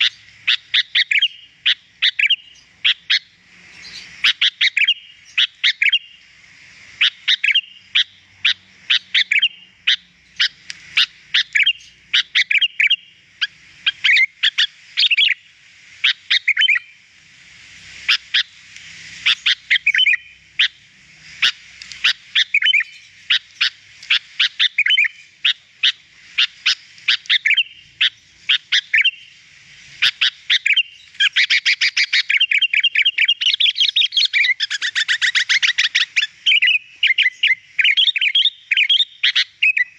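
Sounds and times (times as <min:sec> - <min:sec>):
bird singing chirpy notes: 0:00.0 - 0:06.3, 0:06.9 - 0:17.0, 0:19.2 - 0:39.9.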